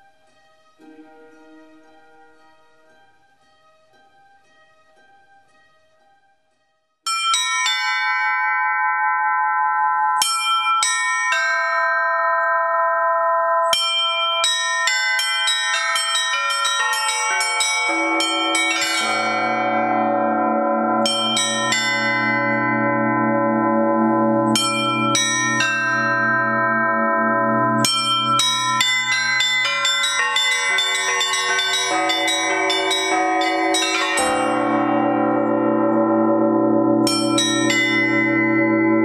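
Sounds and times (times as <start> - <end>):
small bells struck rapidly: 7.1 - 39.0
large bell ringing hum: 7.6 - 39.0.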